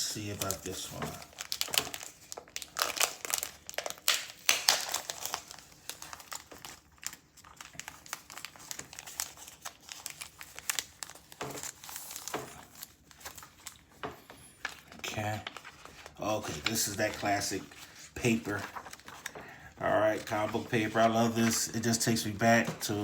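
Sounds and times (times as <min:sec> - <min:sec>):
plastic bag crinkling and rustling: 0:00.0 - 0:23.0.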